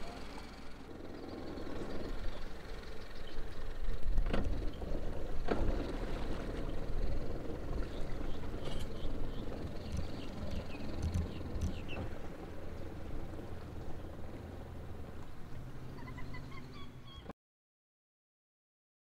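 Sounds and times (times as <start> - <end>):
vehicle engine rumbling: 0.0 - 17.3.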